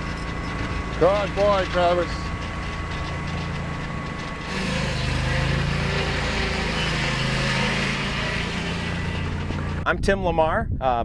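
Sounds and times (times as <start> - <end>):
small gasoline engine running: 0.0 - 9.8.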